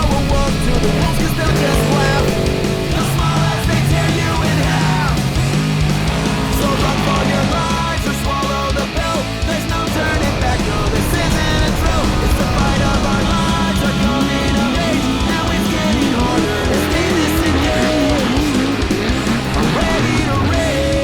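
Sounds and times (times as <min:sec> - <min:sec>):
fast hard rock music: 0:00.0 - 0:21.0.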